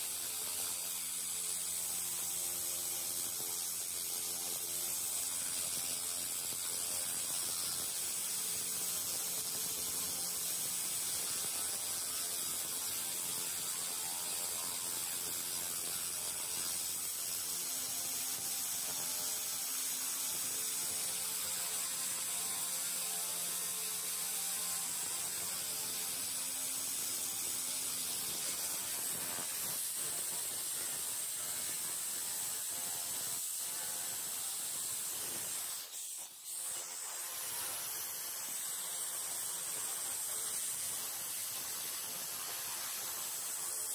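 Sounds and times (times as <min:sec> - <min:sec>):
laser cleaner crackling hiss: 0:00.0 - 0:43.9.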